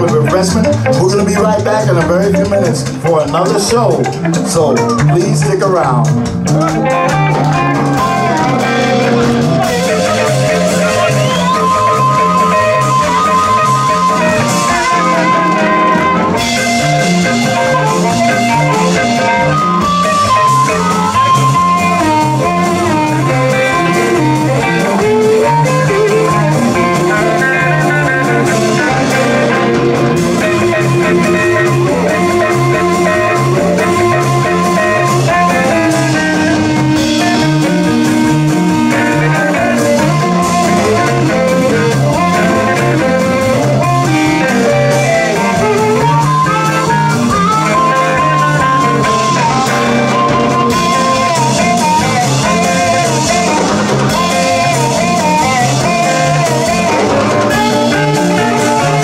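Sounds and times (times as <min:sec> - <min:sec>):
drums: 0:00.0 - 0:59.0
electric guitar: 0:00.0 - 0:59.0
amplified harmonica: 0:06.4 - 0:59.0.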